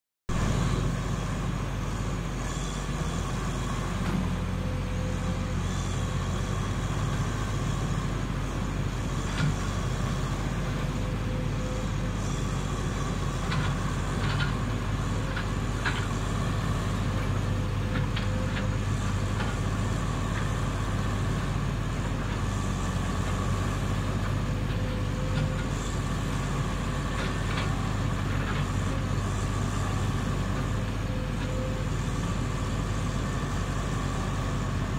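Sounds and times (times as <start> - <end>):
excavator diesel engine running: 0.3 - 34.9.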